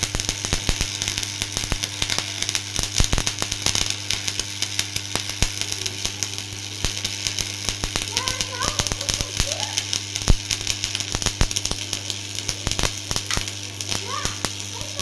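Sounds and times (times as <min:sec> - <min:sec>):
arc welding hiss and crackle: 0:00.0 - 0:15.0.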